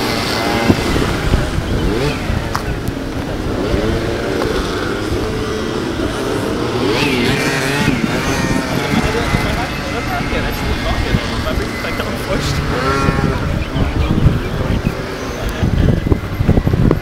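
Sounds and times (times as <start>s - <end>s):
moped engines revving: 0.0s - 17.0s.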